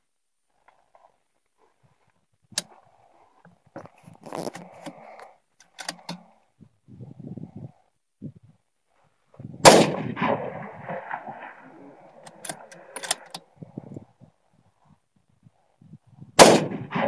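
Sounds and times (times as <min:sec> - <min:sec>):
low rustle: 0:00.0 - 0:16.4.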